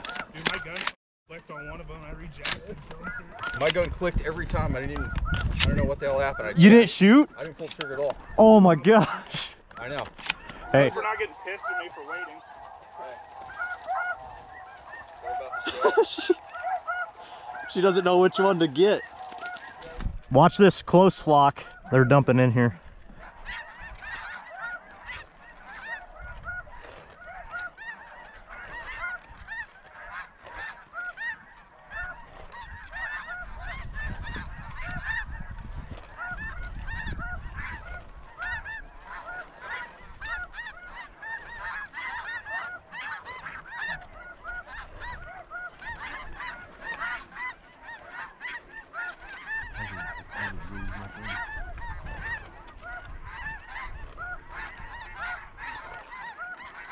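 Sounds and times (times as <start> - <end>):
geese honking overhead: 0.0 - 56.9.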